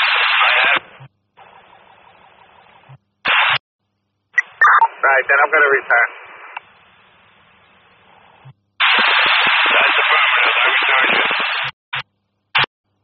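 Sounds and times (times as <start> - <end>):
radio scanner static: 0.0 - 1.8, 2.7 - 3.6, 4.4 - 12.7.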